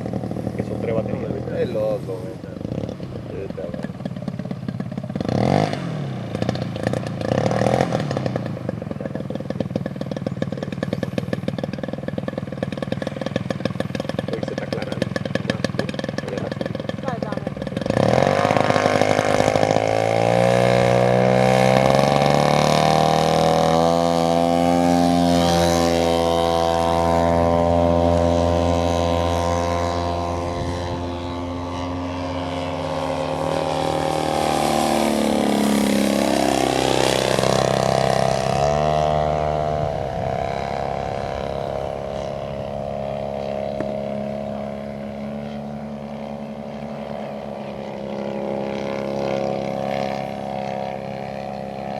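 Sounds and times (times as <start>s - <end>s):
model plane engine and propeller: 0.0s - 51.9s.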